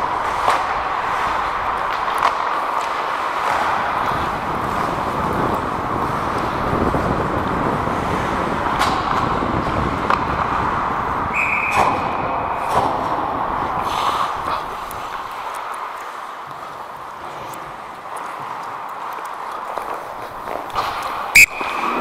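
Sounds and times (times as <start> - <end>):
hockey sticks and puck clacking: 0.0 - 22.0
skate blades scraping ice: 0.0 - 22.0.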